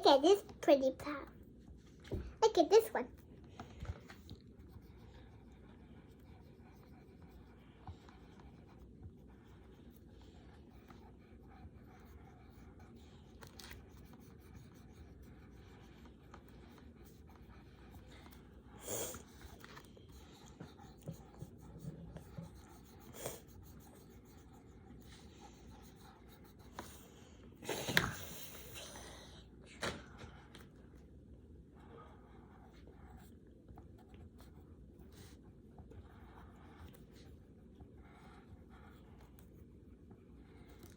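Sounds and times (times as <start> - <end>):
coloured pencils scratching on paper: 0.0 - 29.1, 30.3 - 40.9.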